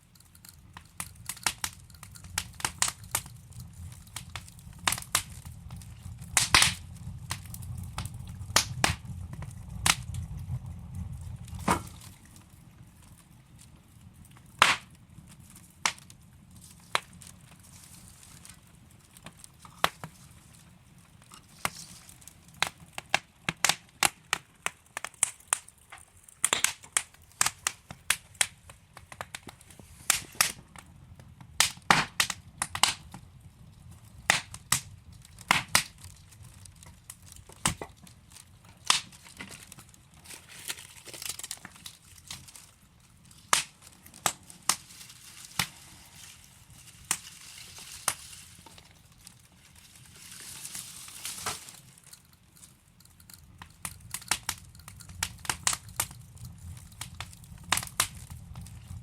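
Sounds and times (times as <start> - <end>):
low rumble and hiss of fire: 0.0 - 59.0
wood fire crackling and popping: 0.0 - 59.0.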